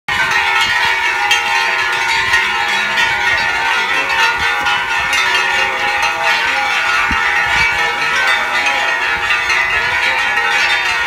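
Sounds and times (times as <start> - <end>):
steady ringing tones: 0.1 - 11.0.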